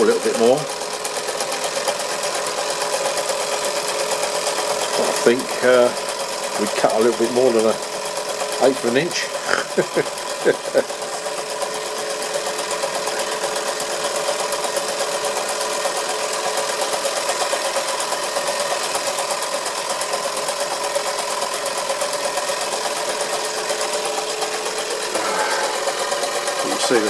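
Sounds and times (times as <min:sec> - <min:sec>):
toy steam engine clattering: 0:00.0 - 0:27.0.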